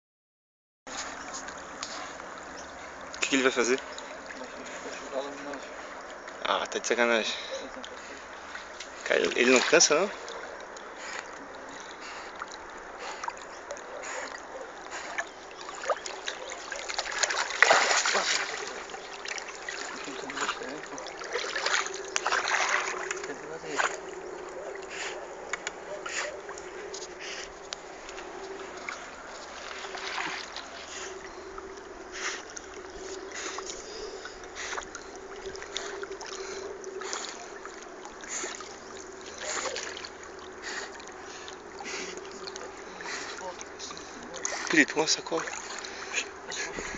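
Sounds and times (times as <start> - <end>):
dog paddling and splashing: 0.9 - 46.9.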